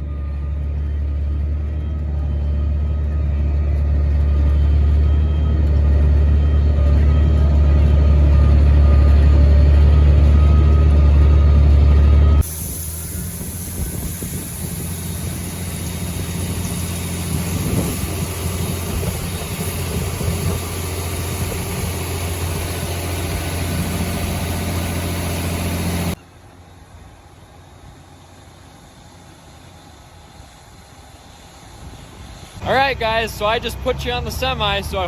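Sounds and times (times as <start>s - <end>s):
farm vehicle engine humming: 0.0s - 35.0s
quiet engine hum: 0.0s - 35.0s.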